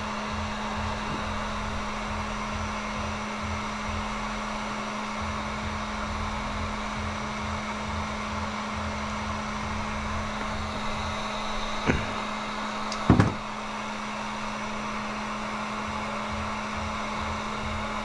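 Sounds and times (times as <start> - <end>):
heat gun fan blowing: 0.0 - 18.0.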